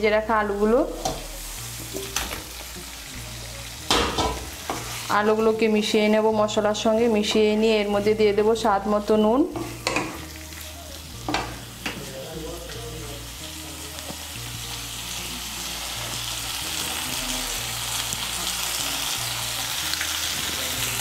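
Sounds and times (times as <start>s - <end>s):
potatoes sizzling in hot oil: 0.2s - 21.0s.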